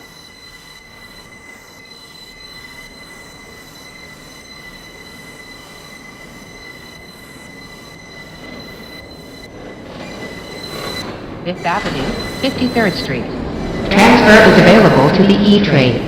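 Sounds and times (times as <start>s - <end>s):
high-pitched wheel squeal: 0.0s - 15.2s
subway car rumbling: 2.6s - 16.0s.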